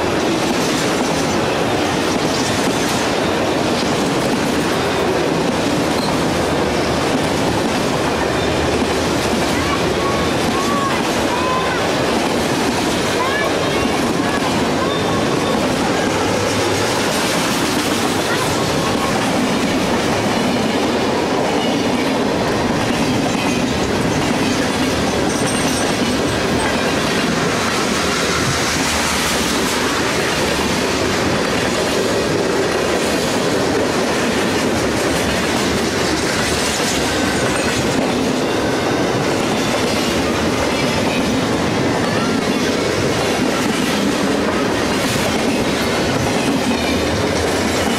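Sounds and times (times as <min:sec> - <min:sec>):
freight train wheels on rails: 0:00.0 - 0:47.9.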